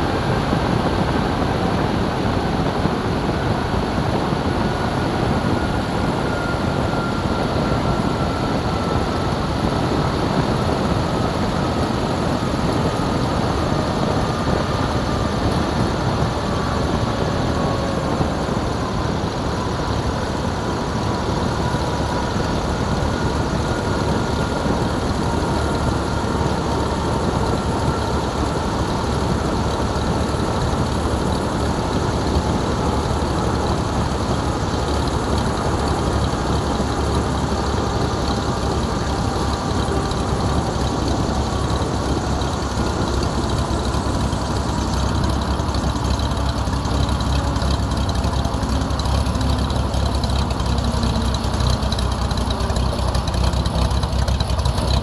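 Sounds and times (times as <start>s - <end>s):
faint whine falling in pitch: 0.0s - 55.0s
light airplane rolling down runway: 0.0s - 55.0s.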